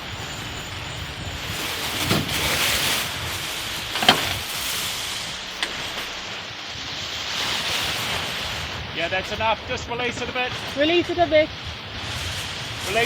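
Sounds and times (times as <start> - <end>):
rushing water: 0.0 - 13.0
wind on microphone: 0.0 - 13.0.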